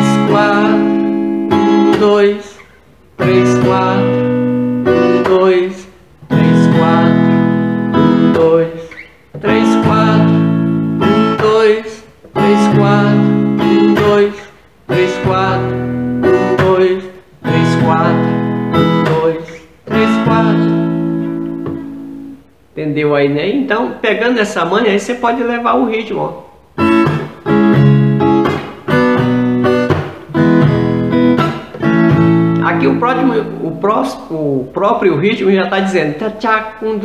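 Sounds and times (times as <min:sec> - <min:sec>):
acoustic guitar strumming: 0:00.0 - 0:22.6, 0:26.0 - 0:34.2.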